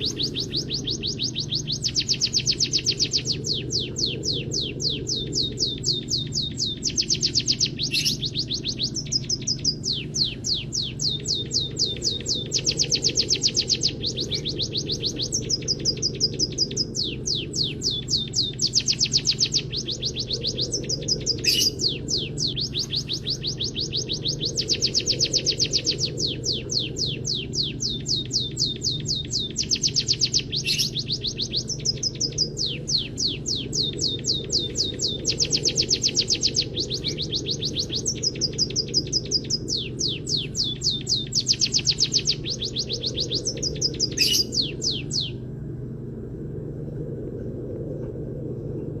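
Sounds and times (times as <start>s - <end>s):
songbird singing: 0.0s - 46.0s
low steady hum: 0.0s - 49.0s.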